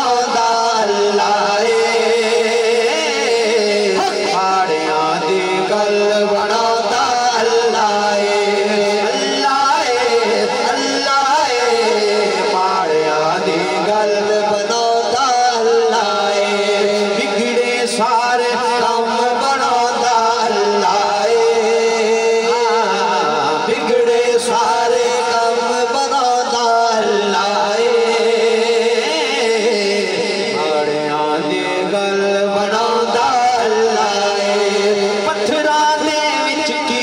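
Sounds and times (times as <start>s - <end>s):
man chanting devotional song: 0.0s - 37.0s.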